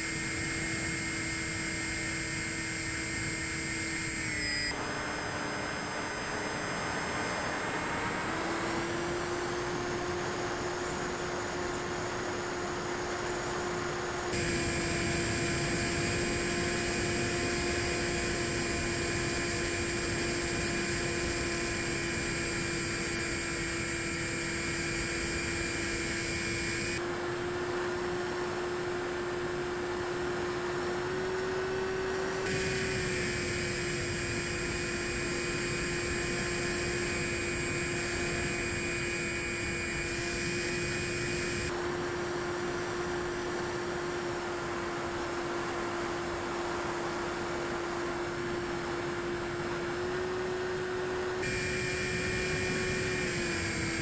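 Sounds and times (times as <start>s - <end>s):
model plane motor humming: 0.0s - 46.3s, 47.8s - 54.0s
high motor whine: 0.0s - 54.0s.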